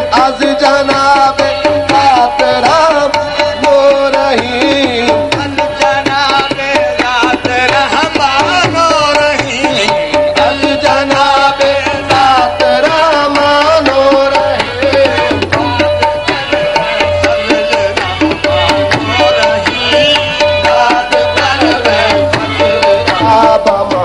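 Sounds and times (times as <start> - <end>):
percussion strokes: 0.0 - 24.0
person singing devotionally: 0.0 - 24.0.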